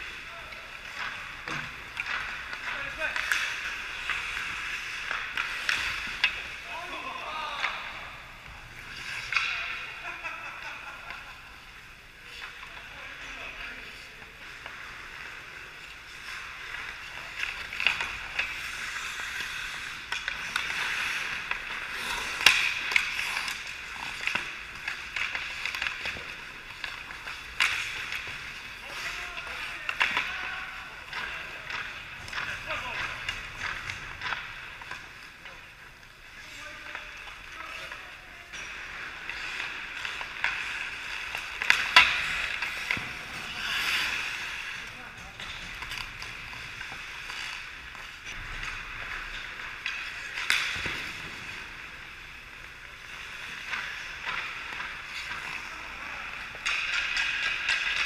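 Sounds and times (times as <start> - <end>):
clacks of sticks and puck: 0.0 - 58.0
skates scraping on ice: 0.0 - 58.0.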